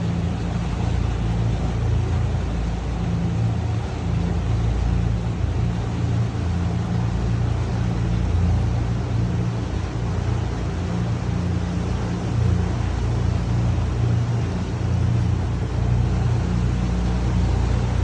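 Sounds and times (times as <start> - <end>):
boat engine humming: 0.0 - 18.0
water washing around hull: 0.0 - 18.0.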